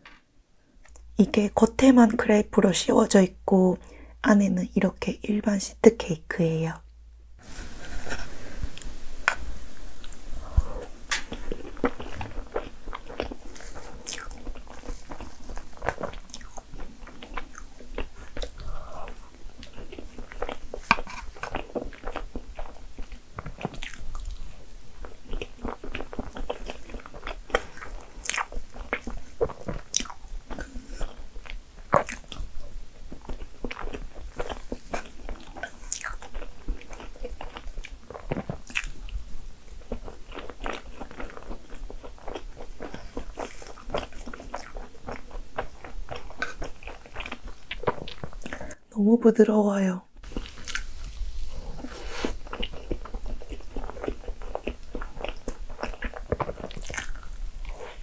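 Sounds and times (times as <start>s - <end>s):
chewing and mouth sounds: 8.0s - 48.8s, 50.2s - 58.0s.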